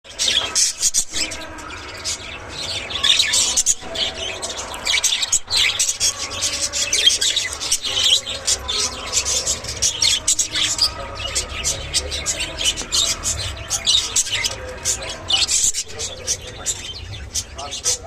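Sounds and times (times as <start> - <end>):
budgerigars chattering: 0.1 - 18.0.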